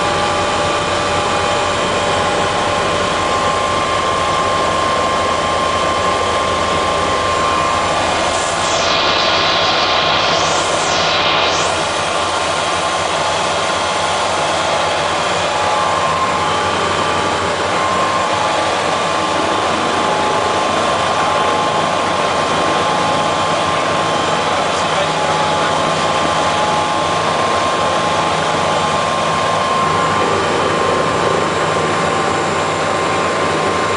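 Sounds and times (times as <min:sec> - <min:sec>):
helicopter turbine whine: 0:00.0 - 0:33.9
rotor and airflow rush: 0:00.0 - 0:33.9.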